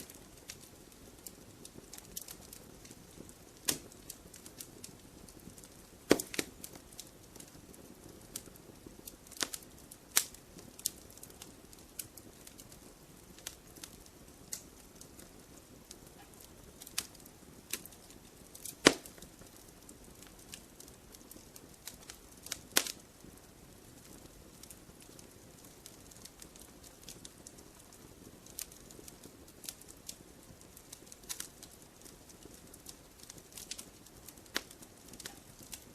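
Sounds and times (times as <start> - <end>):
burning wood crackling and popping: 0.0 - 35.9
flame rushing: 0.0 - 35.9.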